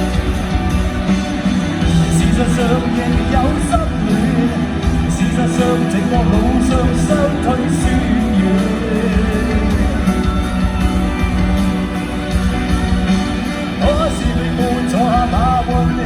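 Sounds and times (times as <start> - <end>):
electric guitar: 0.0 - 16.0
rock band playing live: 0.0 - 16.0.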